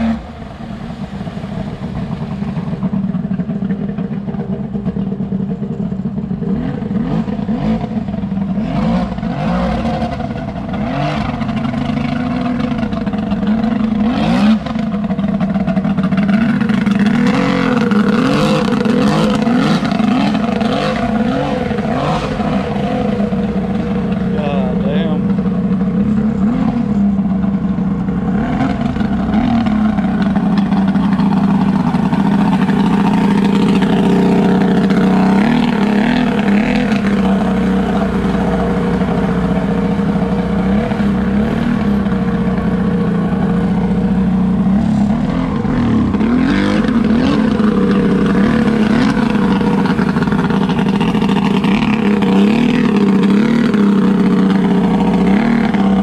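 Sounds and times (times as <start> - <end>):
boat engine running: 0.0 - 56.0
water rushing from jet: 0.0 - 56.0.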